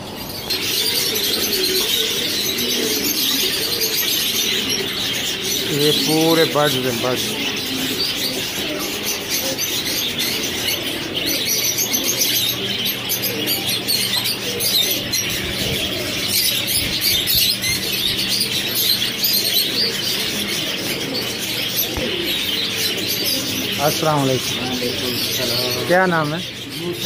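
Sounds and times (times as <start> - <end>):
caged birds chirping: 0.0 - 27.0.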